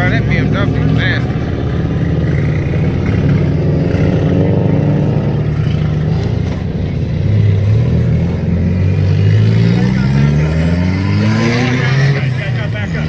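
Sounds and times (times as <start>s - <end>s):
car engine running: 0.0s - 13.0s
deeper engine note: 0.0s - 13.0s.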